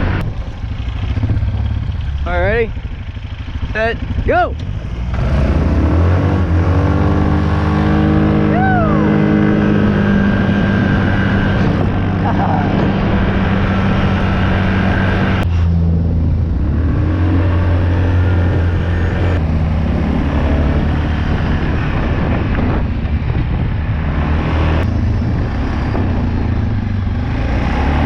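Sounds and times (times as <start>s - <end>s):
off-road vehicle engine running hard: 0.0s - 28.0s.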